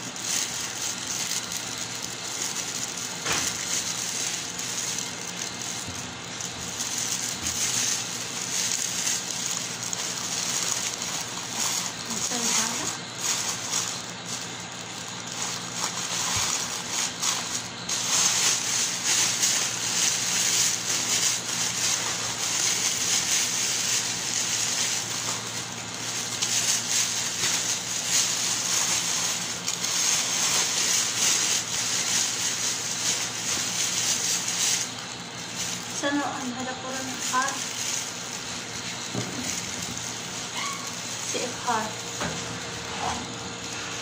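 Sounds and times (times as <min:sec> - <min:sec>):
plastic wrap crinkling: 0:00.0 - 0:44.0.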